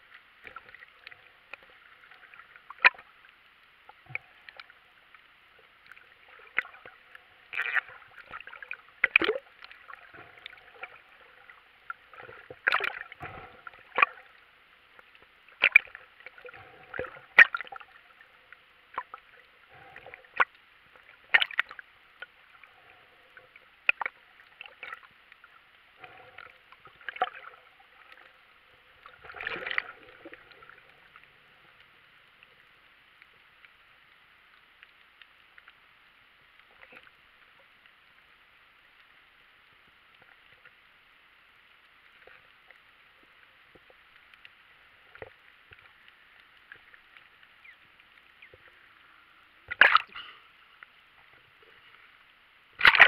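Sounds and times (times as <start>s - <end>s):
muffled underwater hiss: 0.0s - 53.0s.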